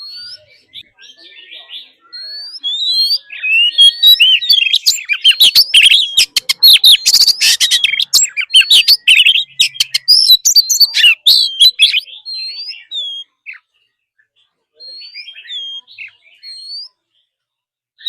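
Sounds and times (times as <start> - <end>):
bird singing varied whistled song: 0.0 - 17.4.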